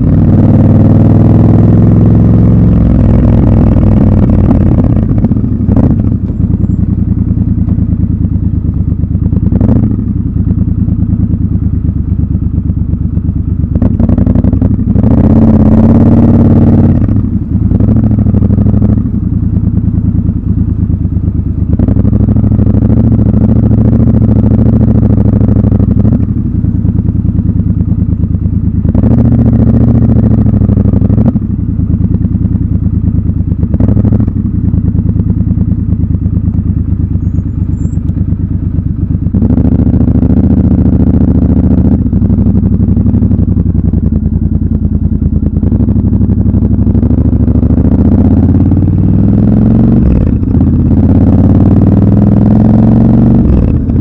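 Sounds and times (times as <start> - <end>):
motorcycle engine at low revs: 0.0 - 54.0.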